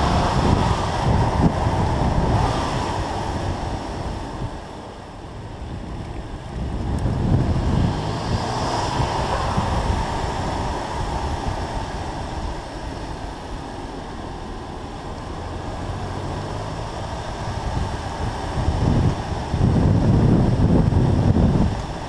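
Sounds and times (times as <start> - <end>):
car exhaust: 0.0 - 22.0
tyre noise on road: 0.0 - 22.0
wind rush on microphone: 0.0 - 22.0.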